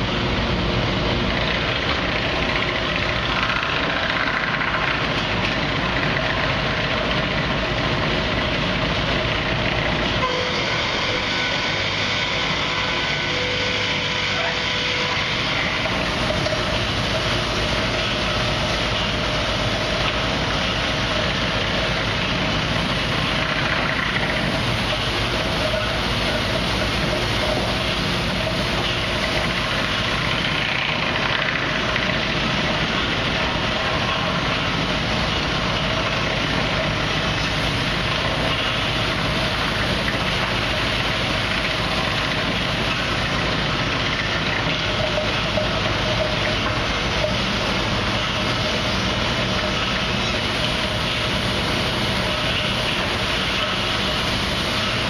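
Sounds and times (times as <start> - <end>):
sawmill machinery din: 0.0 - 55.0.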